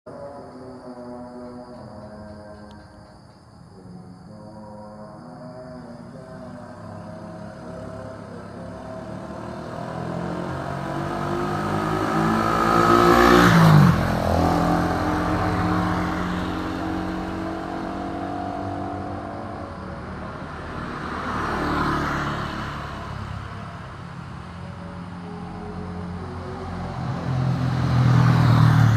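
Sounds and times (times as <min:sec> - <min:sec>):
faint vehicle passing: 0:03.7 - 0:28.9
vehicle passing by: 0:05.4 - 0:28.9.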